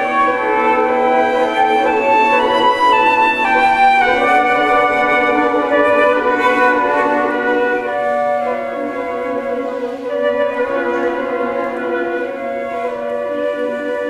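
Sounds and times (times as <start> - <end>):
flute choir playing chords: 0.0 - 14.0.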